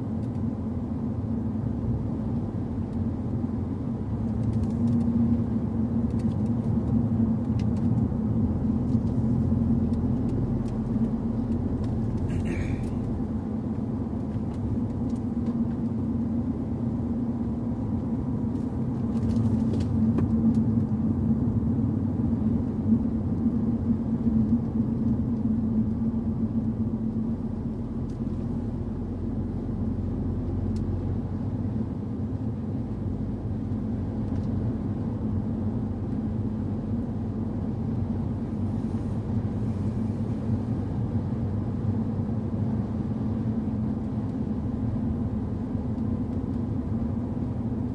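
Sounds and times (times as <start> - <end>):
car engine and tyre rumble: 0.0 - 47.9.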